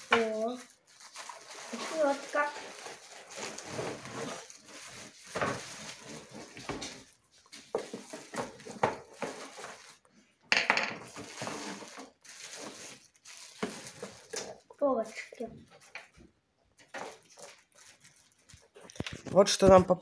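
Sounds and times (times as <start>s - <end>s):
plastic packaging rustling: 0.0s - 10.2s, 10.8s - 16.2s, 16.8s - 19.9s.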